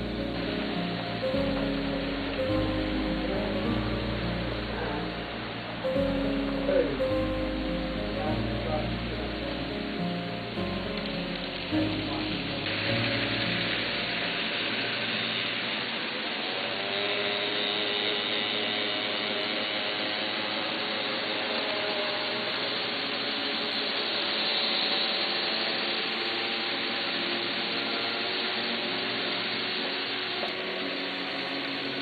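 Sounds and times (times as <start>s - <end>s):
model train motors whining: 0.0s - 32.0s.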